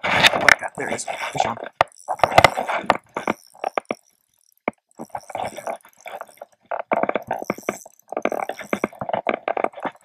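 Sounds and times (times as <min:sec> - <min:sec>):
fishing reel clicks and scrapes: 0:00.1 - 0:10.0.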